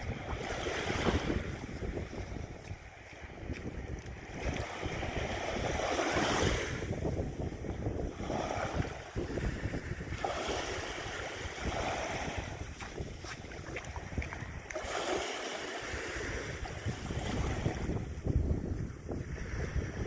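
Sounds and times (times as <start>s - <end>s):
sea water washing and splashing: 0.0s - 20.0s
wind buffeting microphone: 0.0s - 20.0s.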